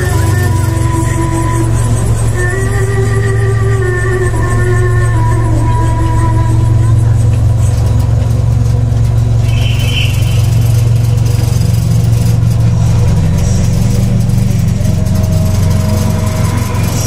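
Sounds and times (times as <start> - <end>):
miniature train locomotive drone: 0.0 - 17.0.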